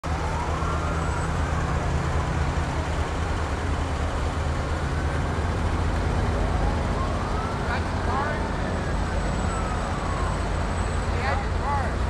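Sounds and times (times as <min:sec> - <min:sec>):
faint siren wail: 0:00.0 - 0:12.0
trucks driving past rumble: 0:00.0 - 0:12.0.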